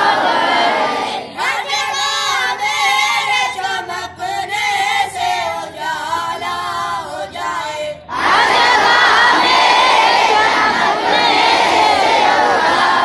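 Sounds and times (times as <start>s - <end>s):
boys singing a prayer: 0.0s - 13.0s.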